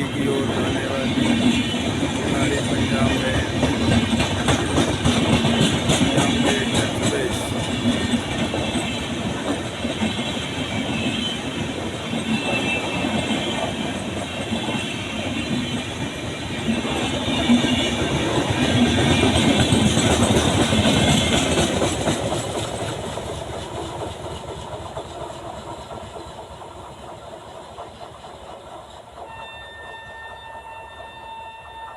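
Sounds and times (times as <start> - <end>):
train wheels clacking over rail joints: 0.0 - 30.2
passenger train passing: 0.0 - 31.9.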